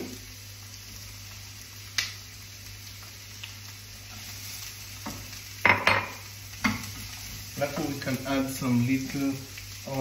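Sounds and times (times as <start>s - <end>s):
onions sizzling in a frying pan: 0.0s - 10.0s.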